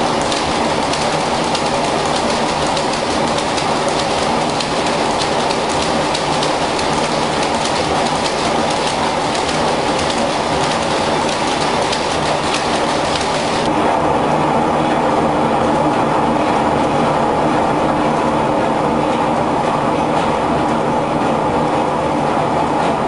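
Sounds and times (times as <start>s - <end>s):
textile machinery clattering: 0.0s - 13.8s, 14.8s - 23.0s.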